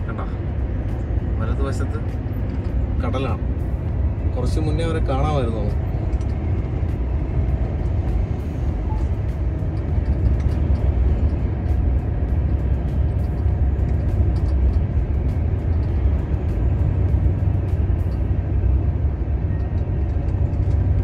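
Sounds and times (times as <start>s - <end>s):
truck driving rumble: 0.0s - 21.0s.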